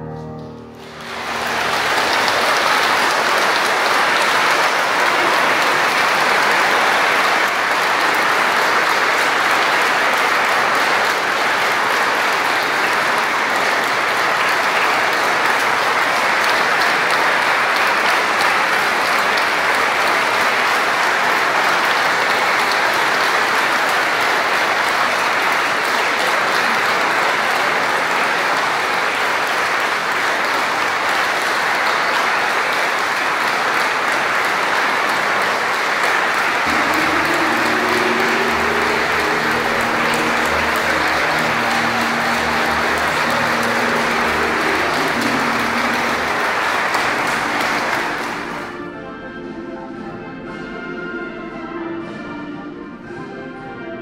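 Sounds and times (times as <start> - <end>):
audience applauding: 0.0 - 48.8
piano: 0.0 - 54.0.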